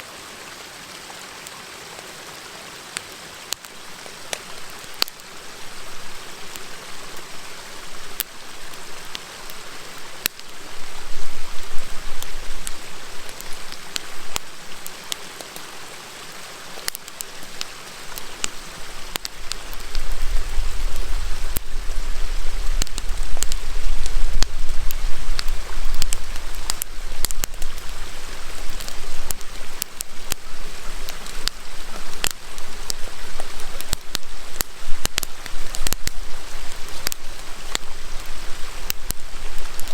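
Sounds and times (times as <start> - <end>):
river rushing: 0.0 - 39.9
campfire crackling and popping: 2.9 - 39.9.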